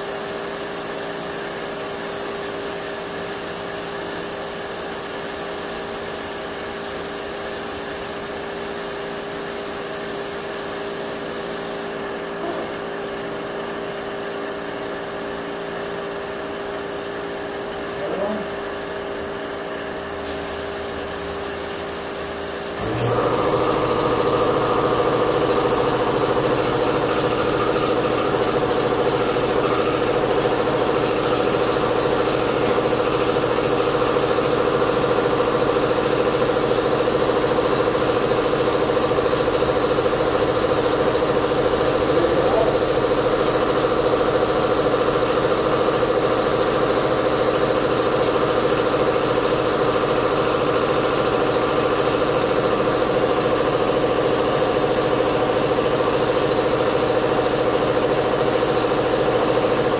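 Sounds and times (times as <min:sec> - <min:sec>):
air compressor running: 0:00.0 - 0:59.9.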